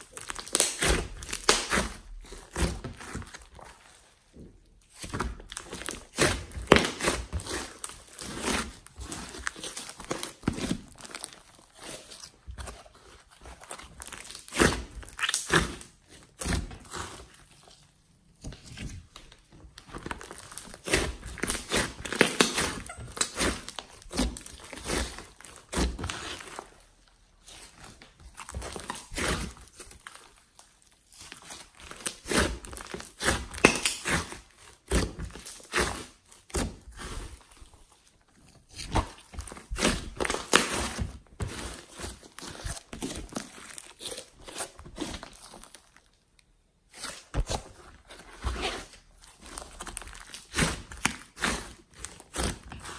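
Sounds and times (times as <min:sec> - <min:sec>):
slime crackling and popping: 0:00.0 - 0:04.0, 0:04.8 - 0:17.8, 0:19.0 - 0:37.7, 0:38.4 - 0:52.9.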